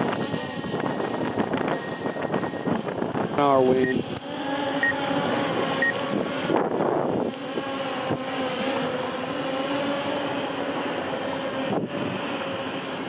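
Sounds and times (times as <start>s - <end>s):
motor hum: 0.0s - 13.0s
wind buffeting microphone: 0.0s - 13.0s.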